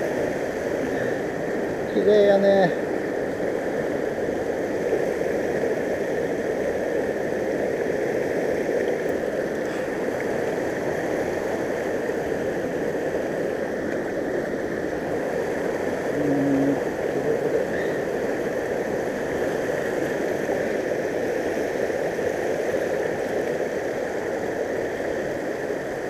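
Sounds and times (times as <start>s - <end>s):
stream gurgling over rocks: 0.0s - 26.0s.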